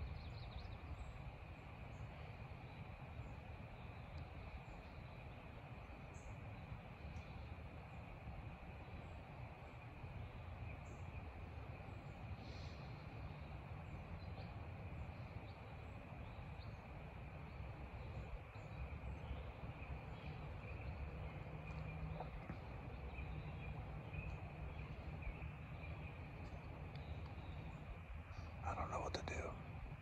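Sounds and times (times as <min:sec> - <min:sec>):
birds chirping: 0:00.0 - 0:30.0
insects droning: 0:00.0 - 0:30.0.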